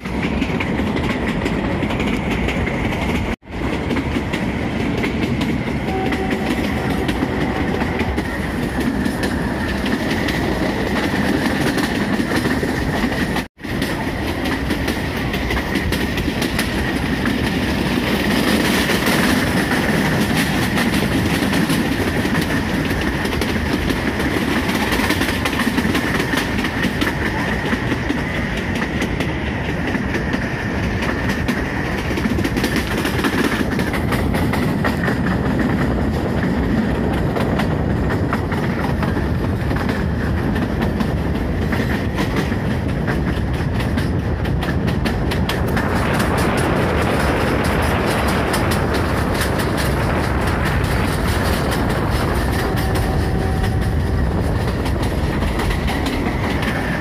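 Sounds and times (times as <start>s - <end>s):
train wheels running on track: 0.0s - 57.0s.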